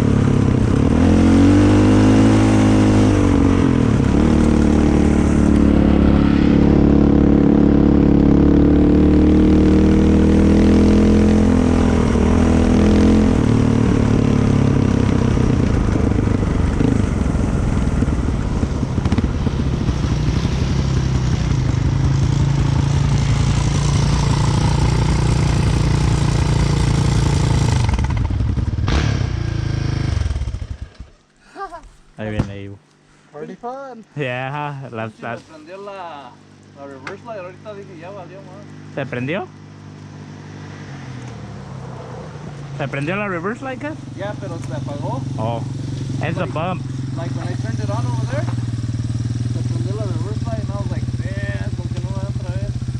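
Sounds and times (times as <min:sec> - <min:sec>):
off-road vehicle engine: 0:00.0 - 0:33.4, 0:34.0 - 0:52.9.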